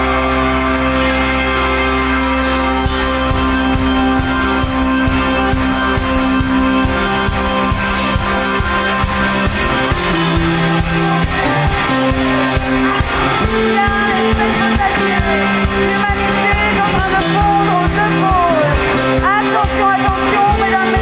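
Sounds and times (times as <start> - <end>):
bass notes: 0.0 - 21.0
sliding lead guitar lines: 0.0 - 21.0
drum beat: 2.6 - 21.0.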